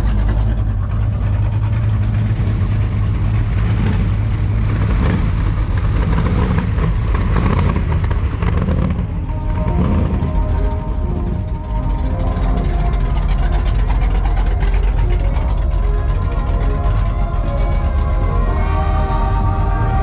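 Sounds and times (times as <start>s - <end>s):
car engines rumbling: 0.0s - 20.0s.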